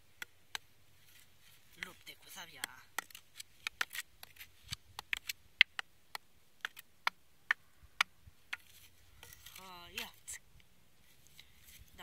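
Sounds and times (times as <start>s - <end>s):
wooden sticks clacking: 0.2s - 10.4s.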